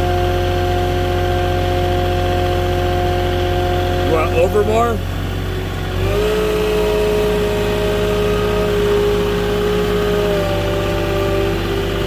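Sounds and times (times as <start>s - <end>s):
forklift engine running: 0.0s - 12.0s
steady mechanical whine: 0.0s - 12.0s.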